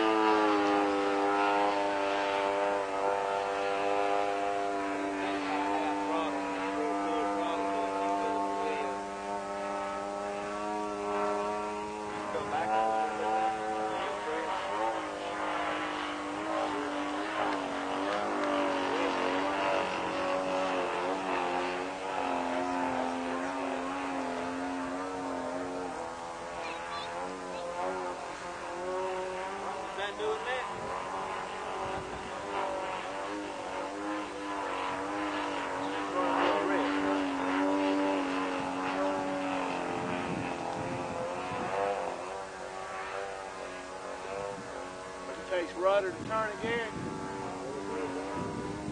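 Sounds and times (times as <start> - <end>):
model plane engine running: 0.0 - 48.9.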